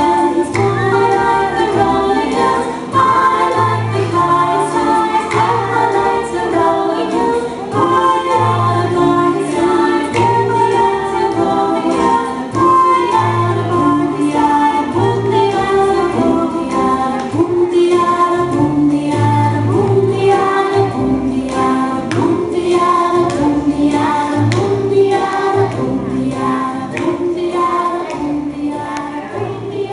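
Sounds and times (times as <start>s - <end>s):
children singing: 0.0s - 29.9s.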